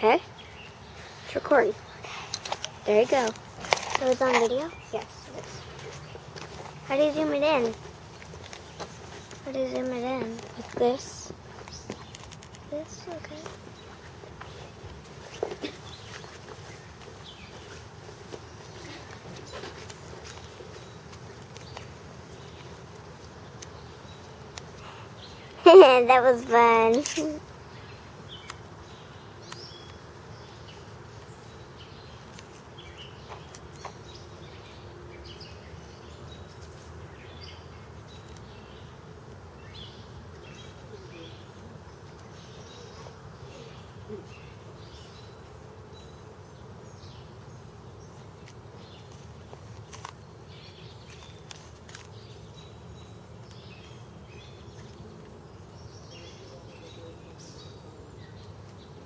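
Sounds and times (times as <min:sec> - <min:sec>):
honeybees buzzing: 0:00.0 - 0:59.0.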